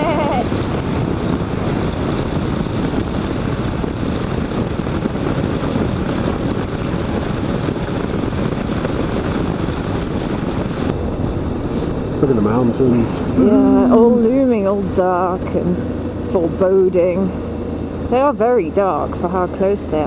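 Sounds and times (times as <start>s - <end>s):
motorcycle engine and road noise: 0.0s - 20.0s
wind rushing over microphone: 0.0s - 20.0s.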